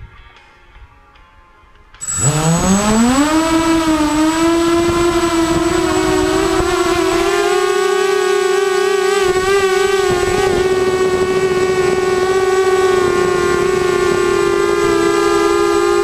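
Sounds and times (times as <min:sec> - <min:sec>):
drone motors whining: 0:02.0 - 0:16.0.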